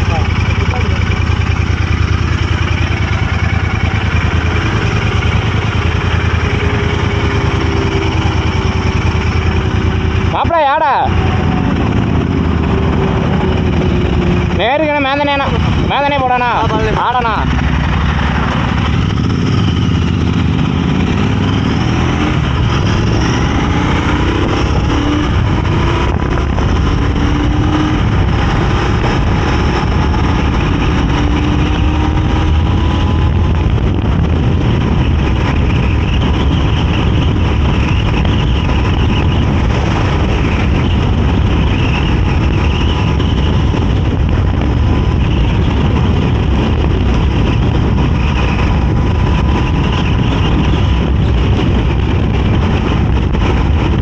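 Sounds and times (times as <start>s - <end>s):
motorcycle engine at road speed: 0.0s - 54.0s
rushing wind: 0.0s - 54.0s.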